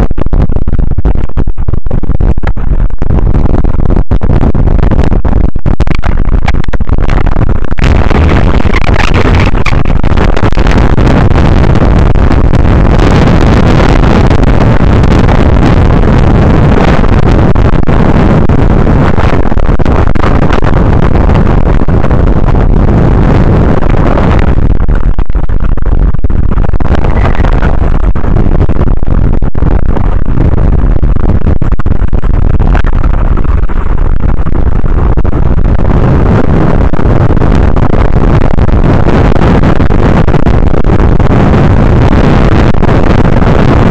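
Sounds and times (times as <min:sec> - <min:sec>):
strong wind buffeting microphone: 0:00.0 - 0:43.9.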